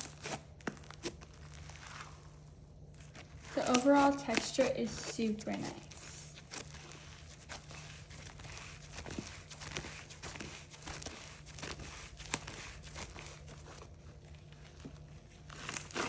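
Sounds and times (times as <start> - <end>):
slime being squished by hand: 0.0 - 16.0.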